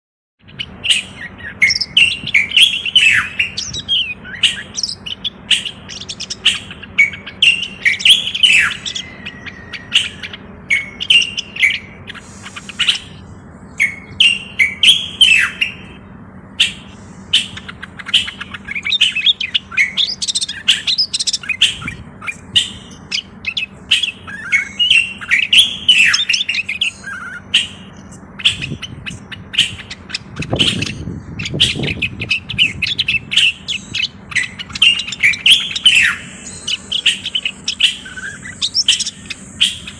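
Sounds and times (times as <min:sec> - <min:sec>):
bulbul singing: 0:00.4 - 0:39.9
faint steady hum: 0:00.4 - 0:39.9.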